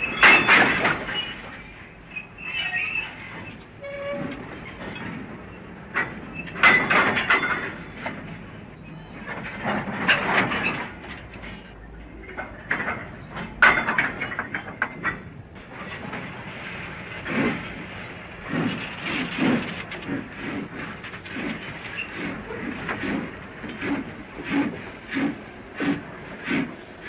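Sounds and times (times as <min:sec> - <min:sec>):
train clanking and knocking: 0:00.0 - 0:27.0
train wagons rumbling: 0:00.0 - 0:27.0.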